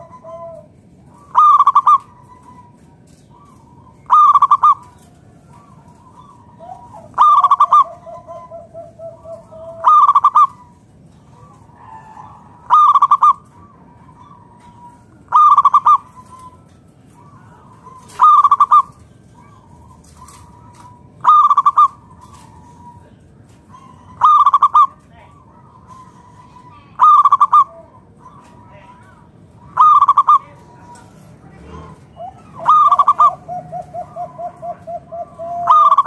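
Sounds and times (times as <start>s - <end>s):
dove cooing: 0.0s - 36.0s.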